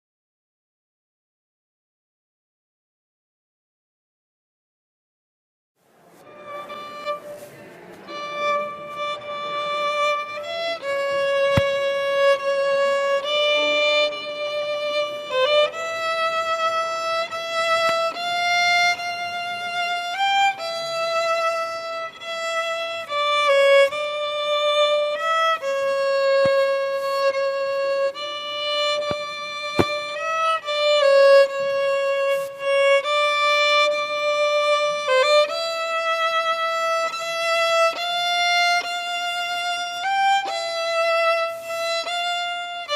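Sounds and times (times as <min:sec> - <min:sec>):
solo violin slow melody: 0:06.0 - 0:42.9.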